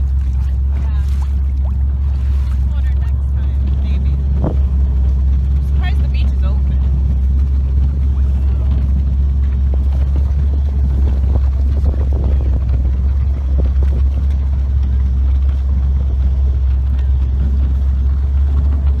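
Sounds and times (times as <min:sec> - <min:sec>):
motorboat engine drone: 0:00.0 - 0:19.0.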